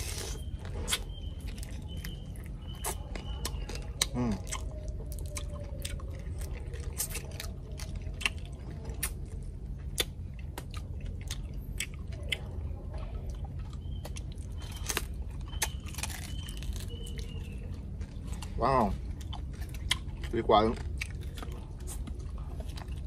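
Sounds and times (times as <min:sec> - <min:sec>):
crunchy chewing: 0:00.0 - 0:23.0
steady low hum: 0:00.0 - 0:23.0.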